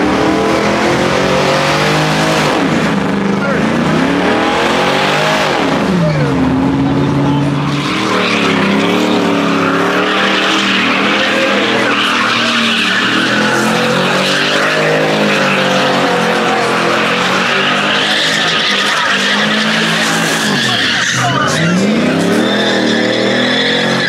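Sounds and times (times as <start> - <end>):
engine revving high: 0.0 - 24.0
tires screeching: 0.0 - 24.0.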